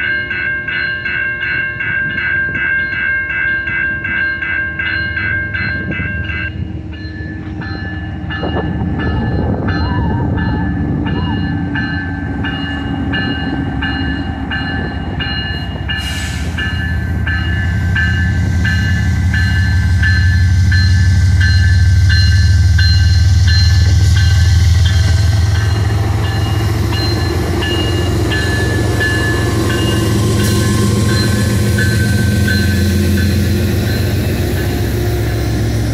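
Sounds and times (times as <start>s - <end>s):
diesel locomotive engine rumble: 0.0s - 35.9s
railroad crossing bell ringing: 0.0s - 35.9s.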